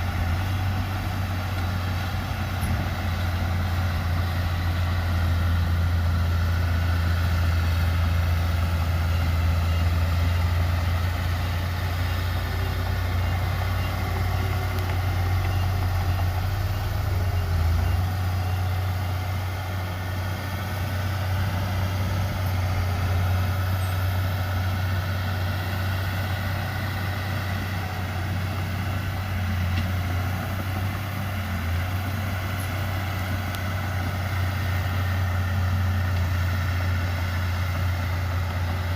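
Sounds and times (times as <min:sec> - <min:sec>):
heavy diesel machinery engine drone: 0:00.0 - 0:38.9.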